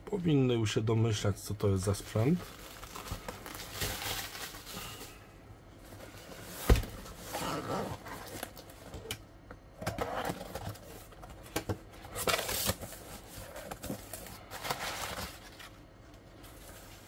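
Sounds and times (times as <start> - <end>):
cardboard and paper rustling: 1.8 - 5.2, 5.8 - 9.0, 9.8 - 17.0.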